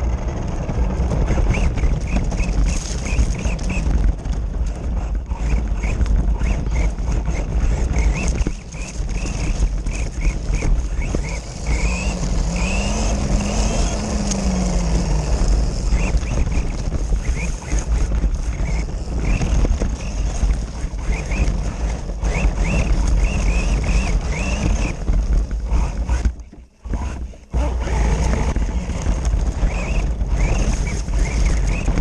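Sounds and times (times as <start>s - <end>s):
wind buffeting microphone: 0.0s - 32.0s
tyres on the ground: 0.1s - 32.0s
remote control car motor: 1.2s - 4.0s, 4.8s - 32.0s.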